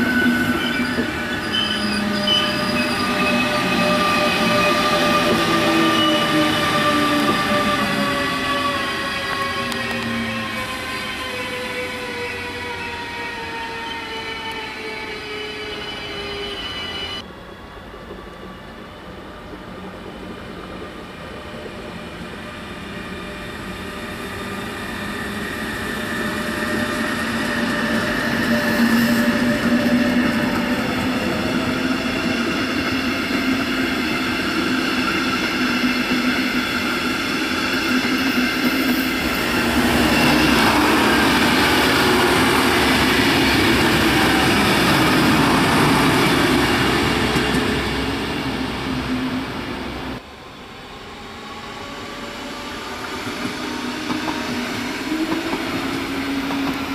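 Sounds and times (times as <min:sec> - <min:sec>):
diesel train passing: 0:00.0 - 0:56.9
electric train passing: 0:00.0 - 0:56.9.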